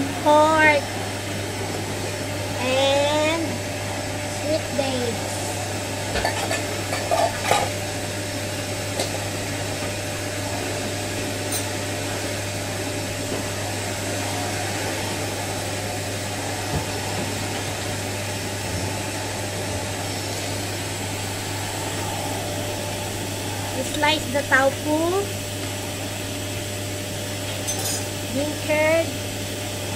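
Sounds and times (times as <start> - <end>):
low machine hum: 0.0 - 29.9.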